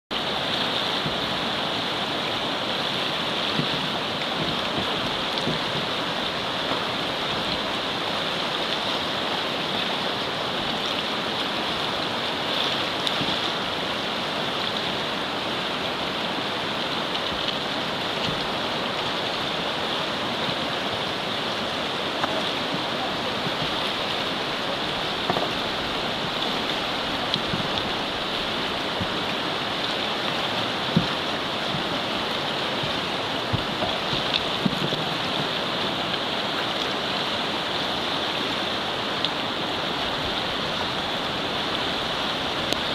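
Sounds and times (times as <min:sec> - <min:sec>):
whitewater rushing through rapids: 0:00.1 - 0:42.9.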